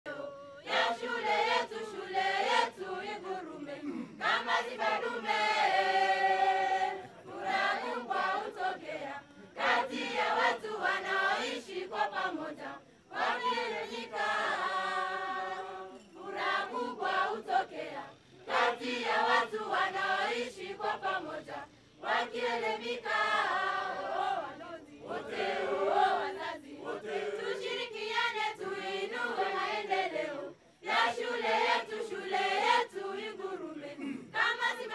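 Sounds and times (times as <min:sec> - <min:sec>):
children's choir singing: 0:00.1 - 0:34.9.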